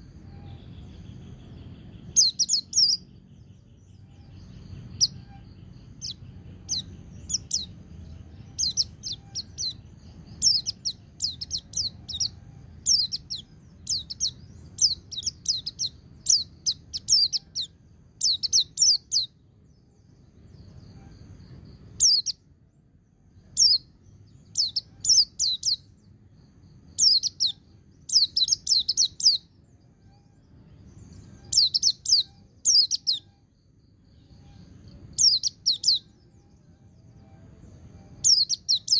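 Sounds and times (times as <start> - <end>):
bird singing fast falling notes: 0.0 - 19.4, 21.5 - 26.2, 26.8 - 29.6, 30.2 - 34.0, 34.6 - 36.4
faint low hum: 0.0 - 38.9.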